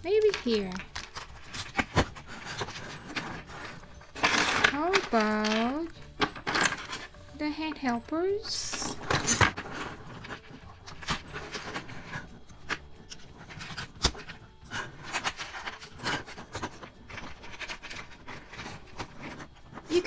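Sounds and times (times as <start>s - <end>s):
plastic toy pieces clicking: 0.0s - 20.0s.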